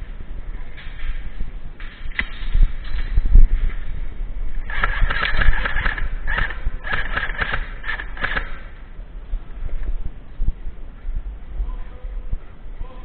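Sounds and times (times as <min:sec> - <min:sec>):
low thumps: 0:00.0 - 0:12.9.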